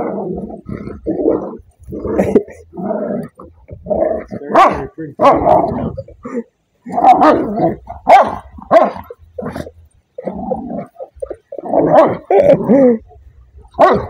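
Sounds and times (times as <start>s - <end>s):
dogs growling and barking: 0.0s - 14.0s.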